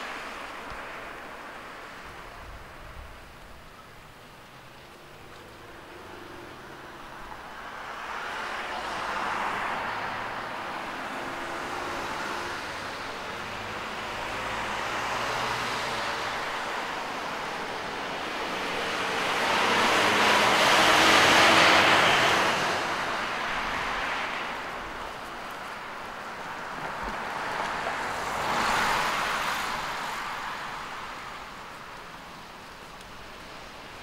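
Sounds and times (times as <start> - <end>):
cars passing on road: 0.0 - 34.0.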